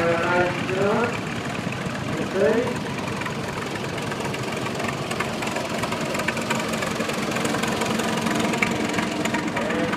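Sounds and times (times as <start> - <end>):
tractor engines running: 0.0 - 9.9.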